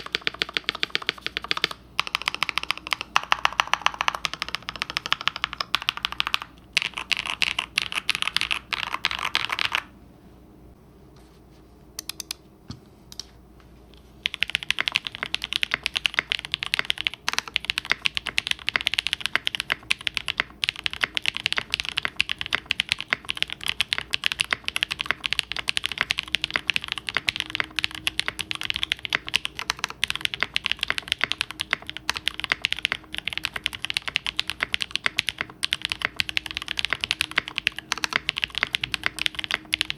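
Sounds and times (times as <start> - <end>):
typing on mechanical keyboard: 0.0 - 9.9, 14.2 - 39.9.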